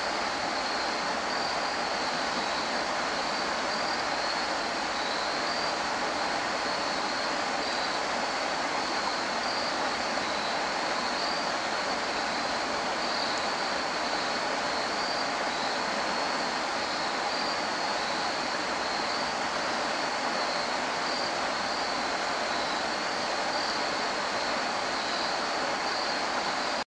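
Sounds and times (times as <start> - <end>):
stream water flowing: 0.0 - 26.8.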